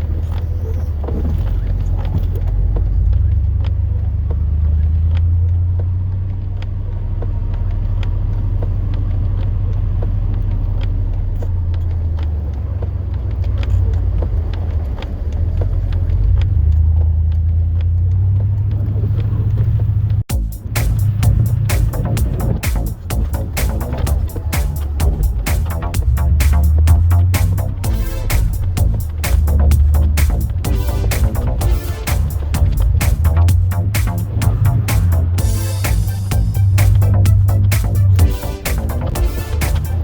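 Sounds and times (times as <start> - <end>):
truck engine rumbling: 0.0 - 40.0.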